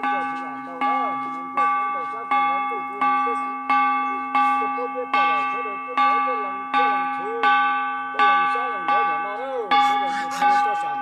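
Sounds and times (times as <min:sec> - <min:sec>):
low chanting voice: 0:00.0 - 0:11.0.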